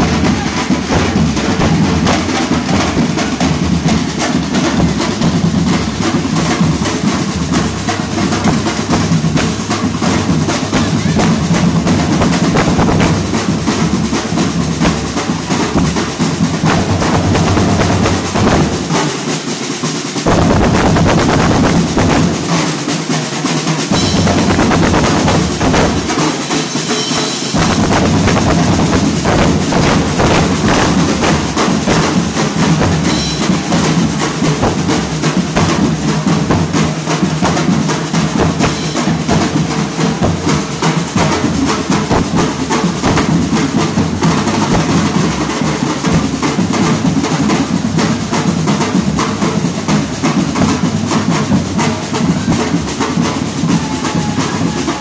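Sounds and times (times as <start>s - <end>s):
bass drums: 0.0s - 19.2s, 20.2s - 22.5s, 23.9s - 26.2s, 27.6s - 55.0s
cymbal: 0.0s - 55.0s
drum band playing: 0.0s - 55.0s.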